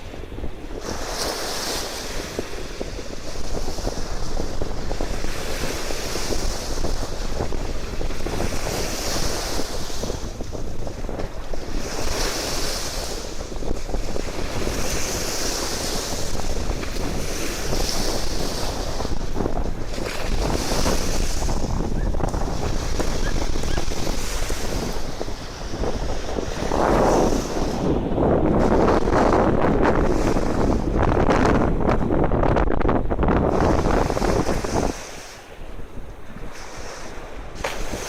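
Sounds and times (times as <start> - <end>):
sea waves washing ashore: 0.0 - 38.0
wind buffeting microphone: 0.0 - 38.0.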